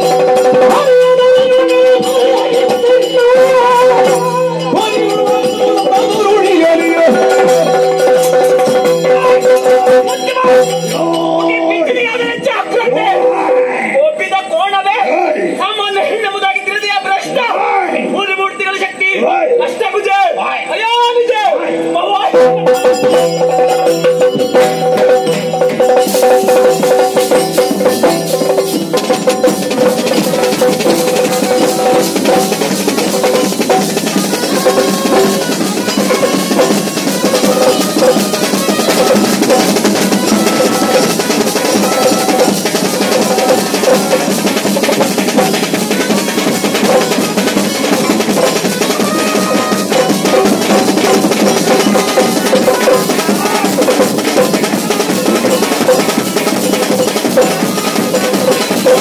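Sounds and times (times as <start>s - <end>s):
rapid drumming: 0.0s - 14.4s, 22.3s - 59.0s.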